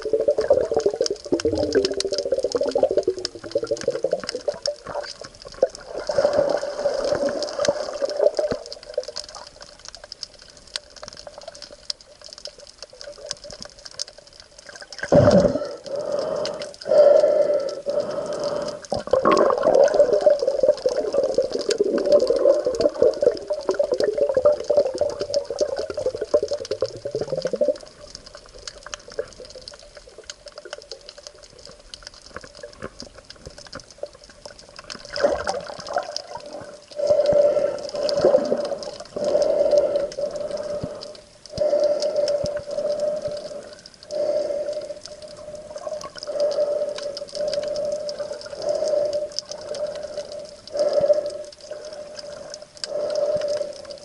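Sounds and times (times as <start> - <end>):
water sloshing and bubbling: 0.0 - 54.0.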